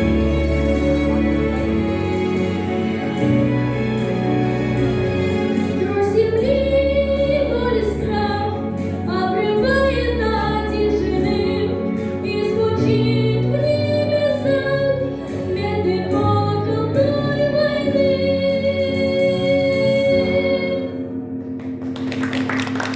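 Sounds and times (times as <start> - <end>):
sustained instrumental accompaniment: 0.0 - 21.7.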